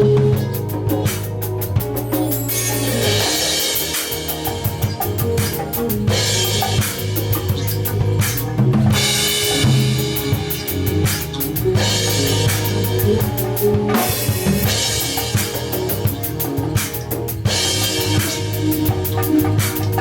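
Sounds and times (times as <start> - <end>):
drum kit playing: 0.0 - 20.0
low bass line: 0.0 - 20.0.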